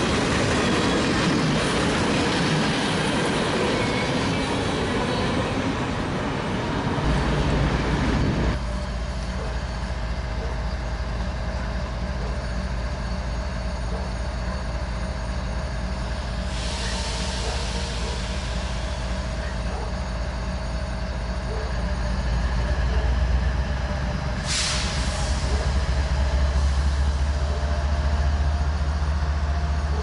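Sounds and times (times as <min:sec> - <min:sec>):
diesel locomotives droning: 0:00.0 - 0:30.0
steel wheels on rail: 0:00.0 - 0:30.0.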